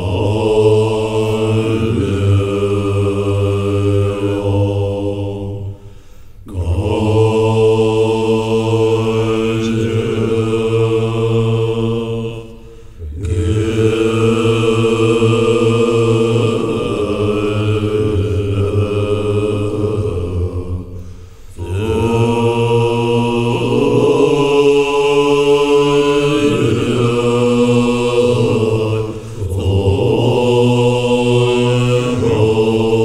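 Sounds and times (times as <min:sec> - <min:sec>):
monks chanting in low voices: 0:00.0 - 0:33.0.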